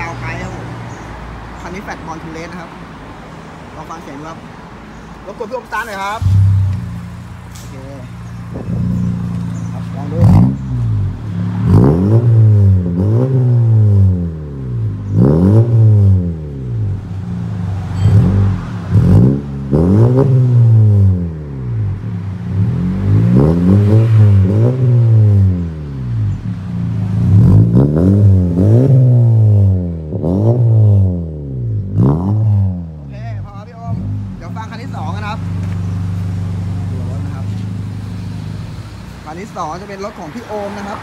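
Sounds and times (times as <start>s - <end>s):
car engine revving in blips: 6.2s - 40.0s.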